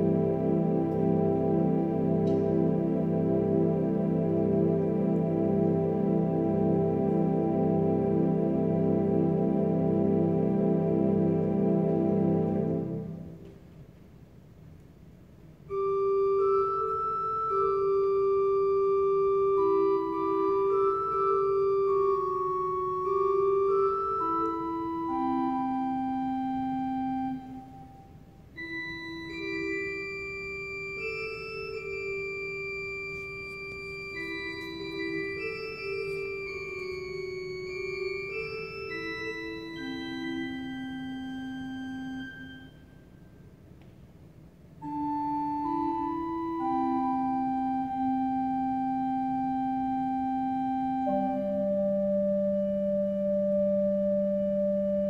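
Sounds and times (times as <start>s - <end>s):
pipe organ playing: 0.0s - 13.8s, 15.6s - 43.8s, 44.6s - 55.0s.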